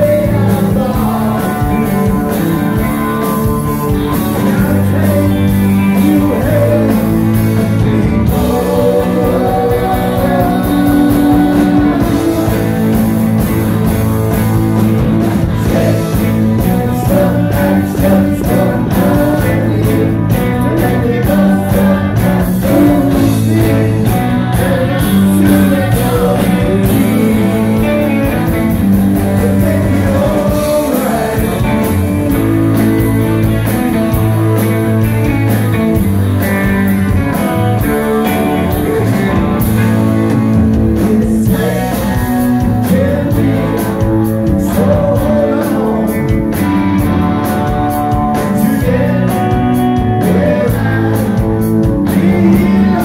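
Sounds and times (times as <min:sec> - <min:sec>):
person singing: 0:00.0 - 0:13.8, 0:15.5 - 0:33.7, 0:37.3 - 0:53.0
rock band playing live: 0:00.0 - 0:53.0.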